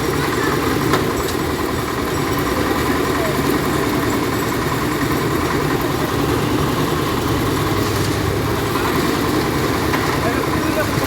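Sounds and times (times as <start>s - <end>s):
concrete mixer engine running: 0.0s - 11.0s.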